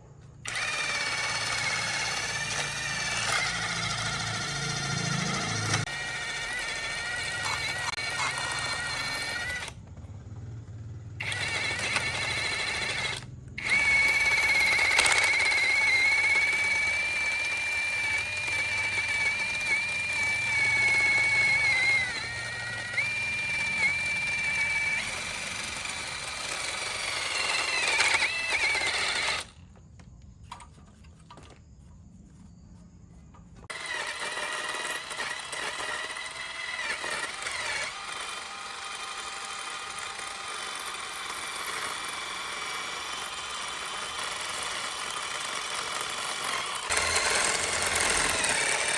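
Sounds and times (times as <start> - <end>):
power tool whining: 0.2 - 30.7, 33.4 - 48.9.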